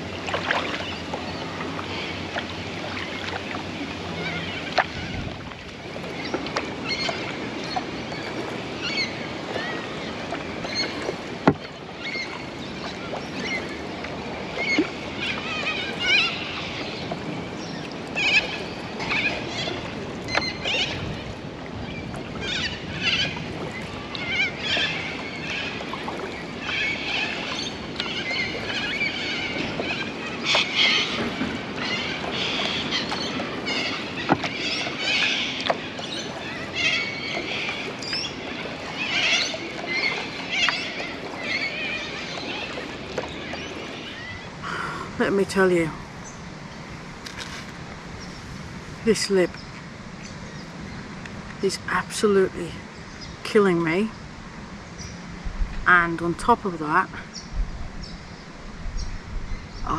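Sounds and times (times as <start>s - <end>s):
kayak paddle strokes: 0.0s - 44.9s, 46.0s - 49.0s
moving water: 0.0s - 59.9s.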